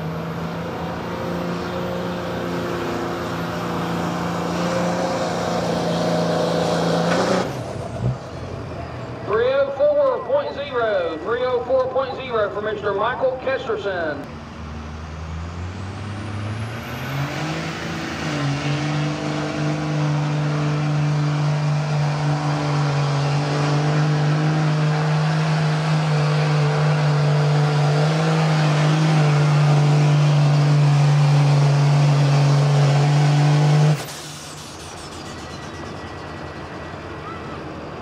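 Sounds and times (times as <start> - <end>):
diesel engine at full throttle: 0.0 - 38.0.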